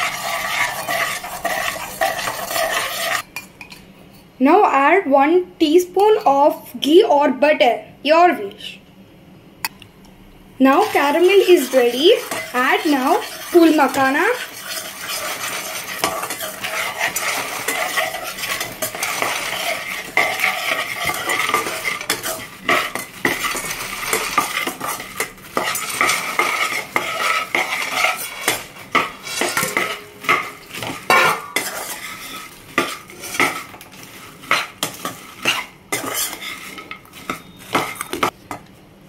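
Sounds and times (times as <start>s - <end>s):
light sizzle: 0.0s - 3.8s, 10.6s - 38.3s
spoon scraping and clinking on pan: 0.0s - 3.8s, 10.8s - 38.4s.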